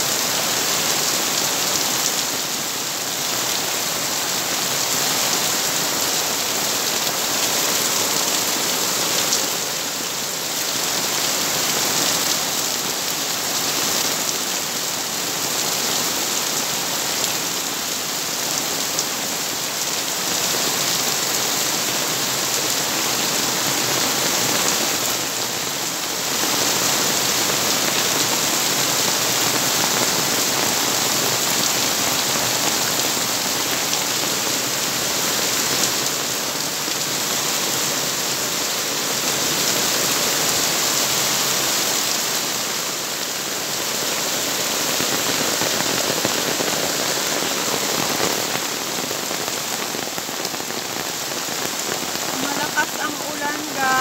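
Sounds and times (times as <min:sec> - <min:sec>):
heavy rain hissing: 0:00.0 - 0:54.0
rainwater splashing on car roof: 0:00.2 - 0:54.0.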